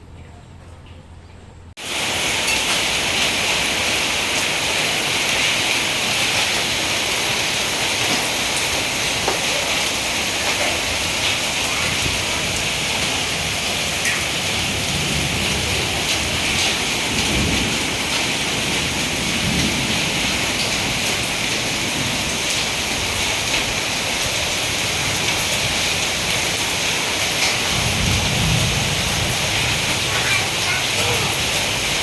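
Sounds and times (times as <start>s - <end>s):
heavy rain and hail: 1.8s - 32.0s.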